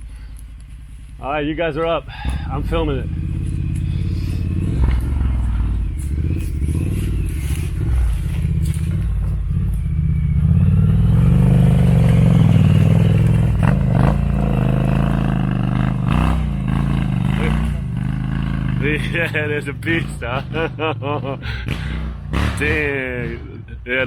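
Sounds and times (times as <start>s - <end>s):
motorcycle engine revving: 2.1s - 23.6s.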